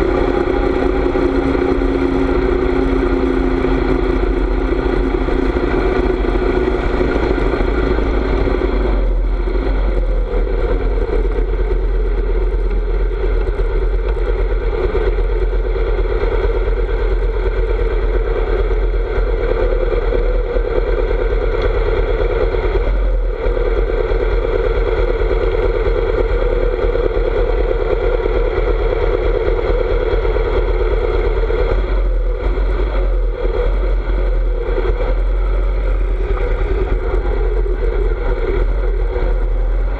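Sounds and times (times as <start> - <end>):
motorcycle engine rumbling: 0.0 - 39.9
wind noise on microphone: 0.0 - 39.9.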